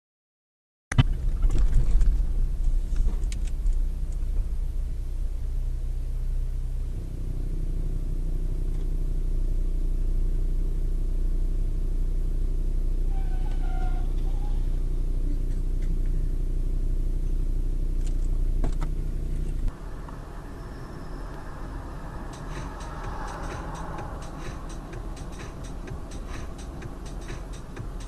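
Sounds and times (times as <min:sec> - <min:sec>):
car engine: 0:00.9 - 0:28.0
road rumble: 0:00.9 - 0:28.0.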